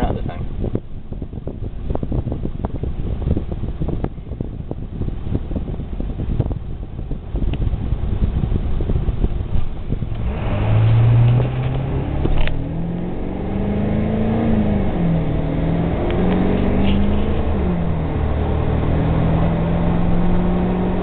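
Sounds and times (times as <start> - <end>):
diesel truck engine accelerating: 0.0 - 21.0.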